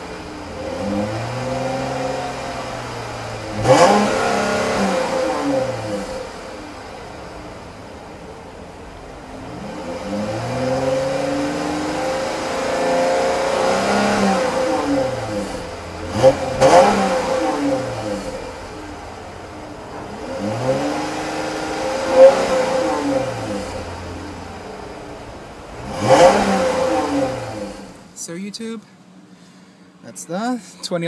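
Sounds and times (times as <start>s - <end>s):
car engine revving: 0.0s - 28.2s.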